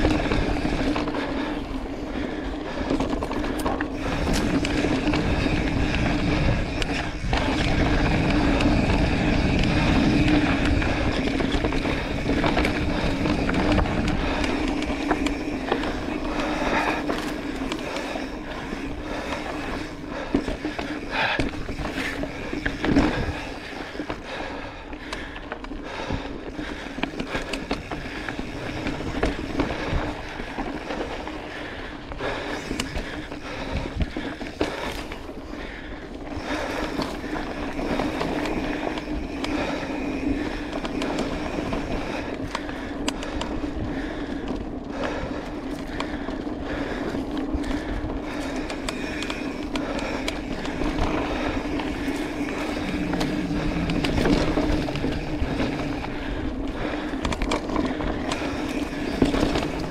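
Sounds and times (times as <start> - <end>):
bike rattling over bumps: 0.0 - 59.9
bike tyres crunching on dirt: 0.0 - 59.9.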